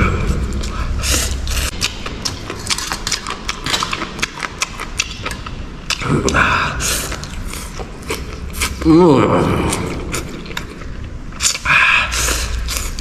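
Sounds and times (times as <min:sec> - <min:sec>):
crunchy chewing: 0:00.3 - 0:08.9, 0:09.6 - 0:13.0.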